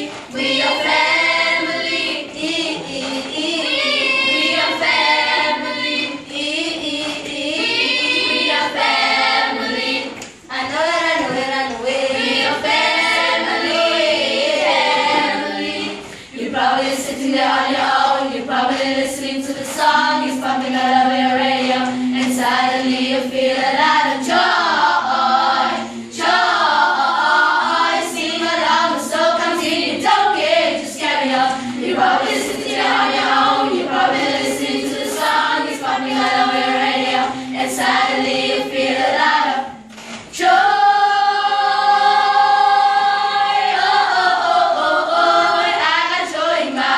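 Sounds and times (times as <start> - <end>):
children's choir singing: 0.0 - 46.9.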